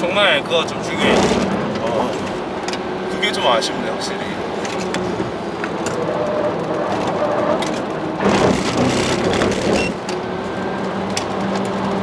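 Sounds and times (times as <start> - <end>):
tyre and road roar: 0.0 - 12.0.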